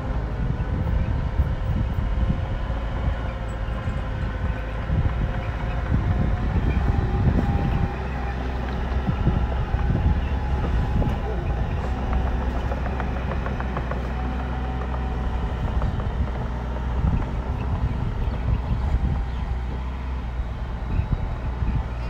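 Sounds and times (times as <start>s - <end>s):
heavy machinery engine rumbling: 0.0s - 22.0s.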